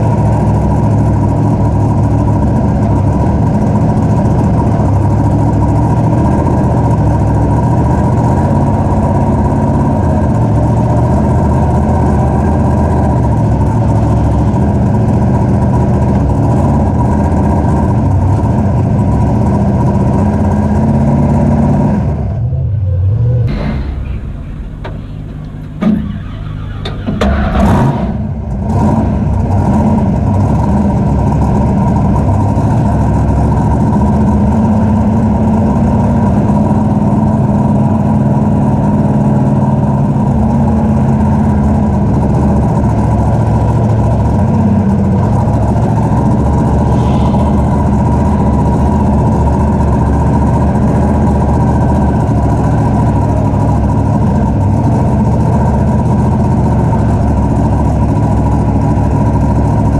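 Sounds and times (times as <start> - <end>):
truck engine revving and running: 0.0 - 59.9.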